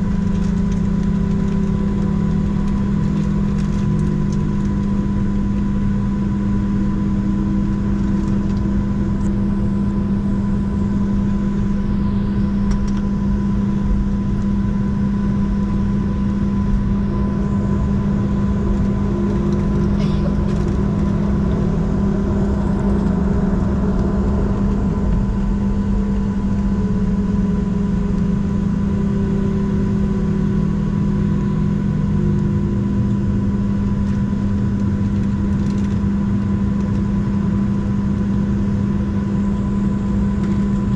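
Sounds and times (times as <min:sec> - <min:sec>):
jet engines idling cabin drone: 0:00.0 - 0:40.9.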